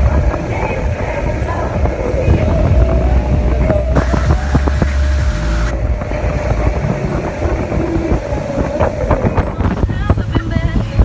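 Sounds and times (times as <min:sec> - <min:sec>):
outboard engine droning: 0:00.0 - 0:11.0
rushing water: 0:00.0 - 0:11.0
wind buffeting microphone: 0:00.0 - 0:11.0.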